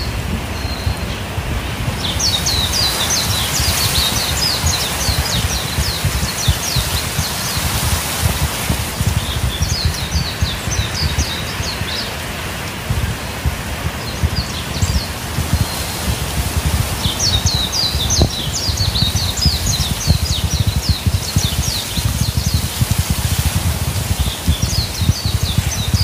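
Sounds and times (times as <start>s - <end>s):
leaves rustling in wind: 0.0s - 26.0s
songbird singing: 0.0s - 26.0s
wind rumble on microphone: 0.0s - 26.0s.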